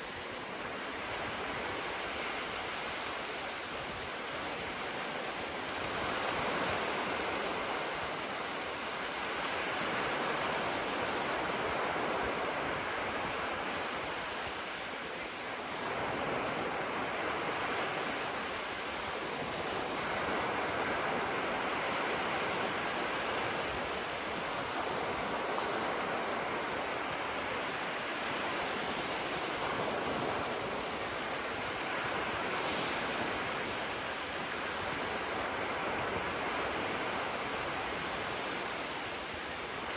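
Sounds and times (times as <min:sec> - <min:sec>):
waves washing on sandy shore: 0:00.0 - 0:39.9.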